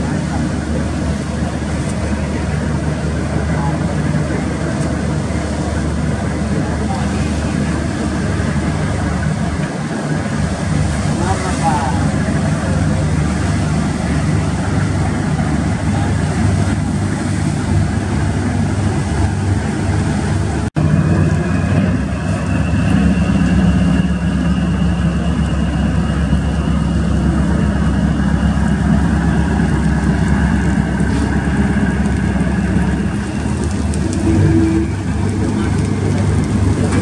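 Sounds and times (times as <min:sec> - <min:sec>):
ship engine drone: 0:00.0 - 0:37.0.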